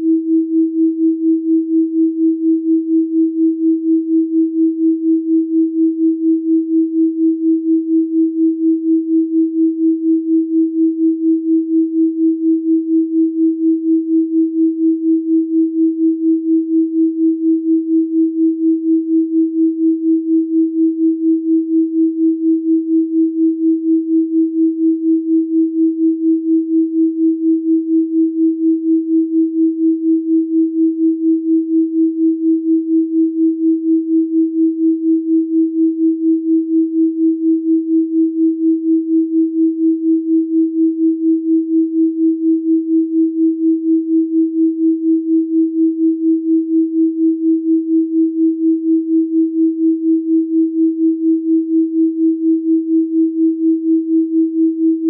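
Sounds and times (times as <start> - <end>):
pulsing electronic sine tone: 0.0 - 55.0.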